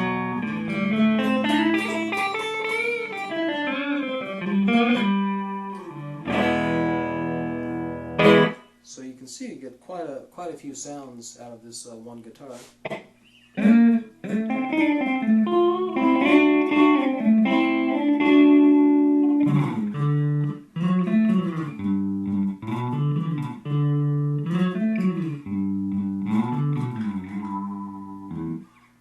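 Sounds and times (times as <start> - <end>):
electric guitar melody: 0.0 - 8.8, 12.8 - 28.9.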